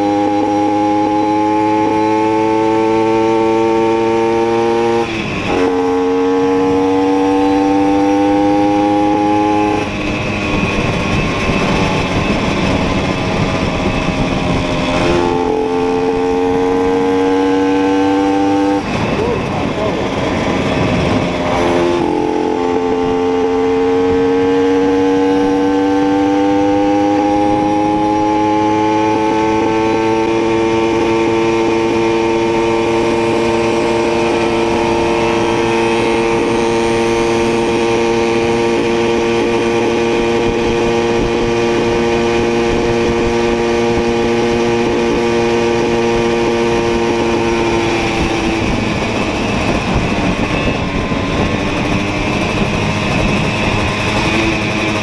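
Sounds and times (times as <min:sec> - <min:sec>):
two-stroke moped engine running: 0:00.0 - 0:55.0.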